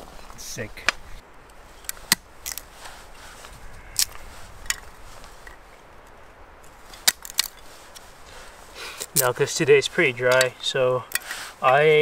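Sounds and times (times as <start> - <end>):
dry wood cracking: 0.0 - 11.8.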